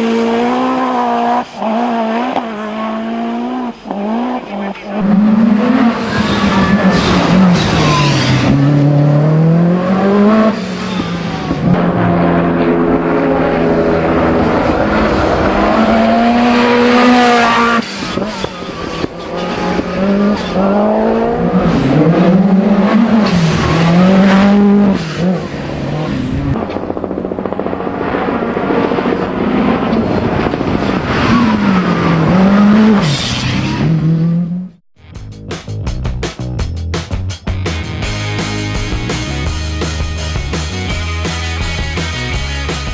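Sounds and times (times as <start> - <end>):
rally car engines revving: 0.0 - 34.8.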